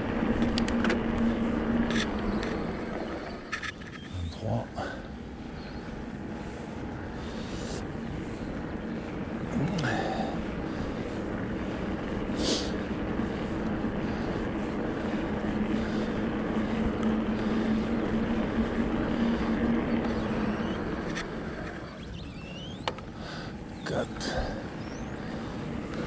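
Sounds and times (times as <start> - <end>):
low electric motor hum: 0.0 - 26.0
wind and rolling noise: 0.0 - 26.0.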